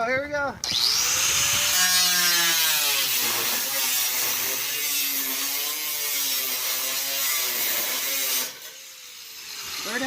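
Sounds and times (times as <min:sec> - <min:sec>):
power saw cutting metal sheet: 0:00.6 - 0:10.0.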